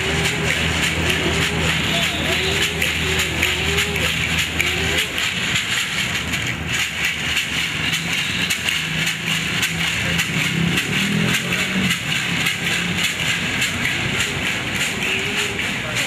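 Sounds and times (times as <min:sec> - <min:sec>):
maraca shaken fast: 0:00.0 - 0:16.0.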